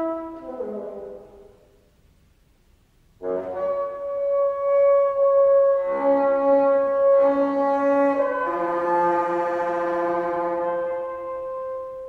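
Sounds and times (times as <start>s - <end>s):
bassoon sustained note: 0.0s - 1.6s, 3.2s - 12.0s.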